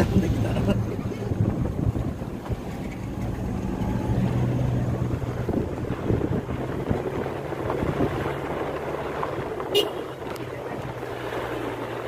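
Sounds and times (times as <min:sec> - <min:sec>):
car engine hum: 0:00.0 - 0:12.0
tyre and road rumble: 0:00.0 - 0:12.0
wind buffeting microphone: 0:00.0 - 0:12.0.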